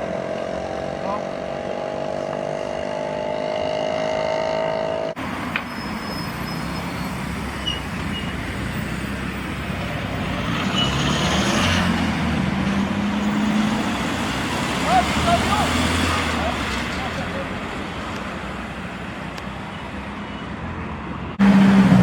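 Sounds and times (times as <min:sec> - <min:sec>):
car engines in traffic: 0:00.0 - 0:22.0.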